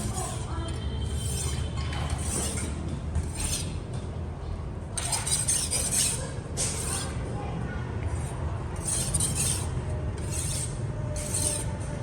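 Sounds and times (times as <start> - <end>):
metal scraping on metal: 0.0 - 4.0, 5.0 - 7.3, 8.1 - 12.0.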